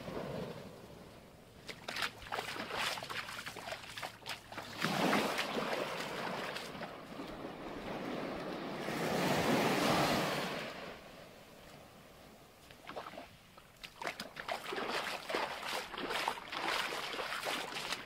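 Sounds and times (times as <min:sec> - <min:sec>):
waves washing onto beach: 0:00.0 - 0:18.0.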